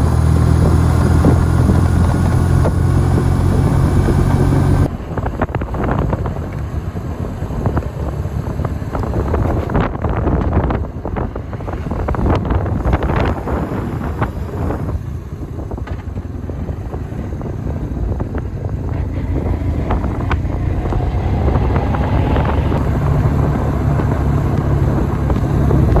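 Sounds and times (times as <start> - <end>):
motorcycle engine running: 0.0 - 26.0
wind noise on microphone: 0.0 - 26.0.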